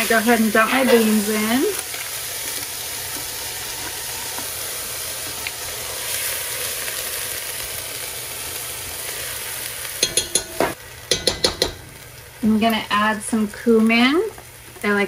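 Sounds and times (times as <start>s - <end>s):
onion and garlic sizzling in oil: 0.0s - 15.0s.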